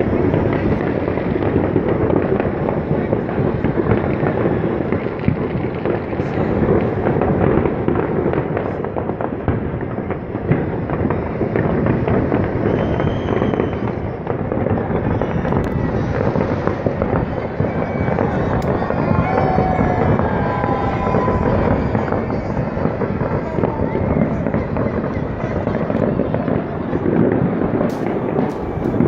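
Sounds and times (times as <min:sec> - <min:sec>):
fireworks crackling and banging: 0:00.0 - 0:29.0.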